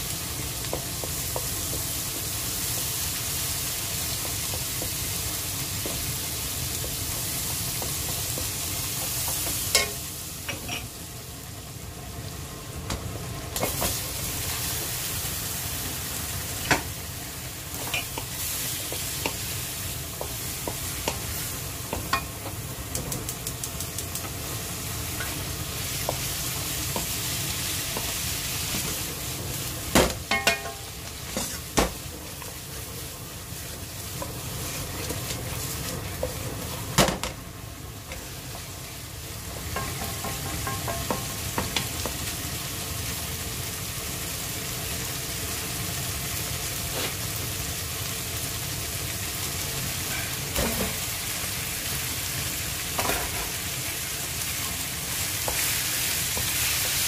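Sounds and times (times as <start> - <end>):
chicken sizzling in a wok: 0.0 - 57.0.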